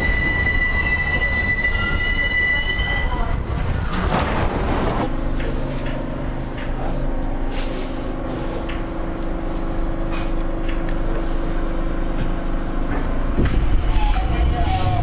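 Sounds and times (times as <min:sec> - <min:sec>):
train humming and rumbling: 0:00.0 - 0:15.0.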